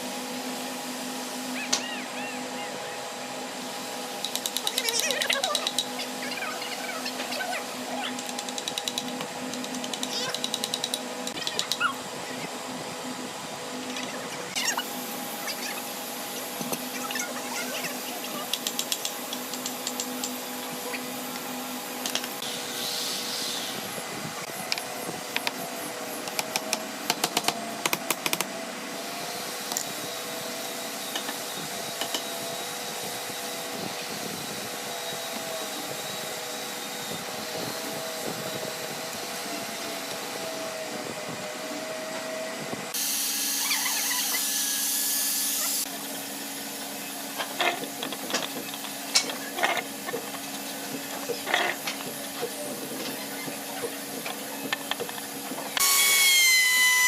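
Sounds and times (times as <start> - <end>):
small motor running: 1.1 - 28.5, 29.2 - 57.0.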